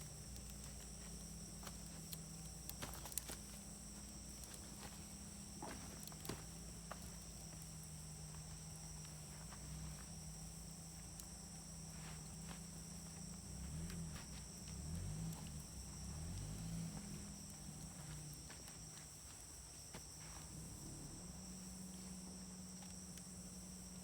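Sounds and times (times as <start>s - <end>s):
high insect trill: 0.0s - 24.0s
wood fire crackling: 0.0s - 24.0s.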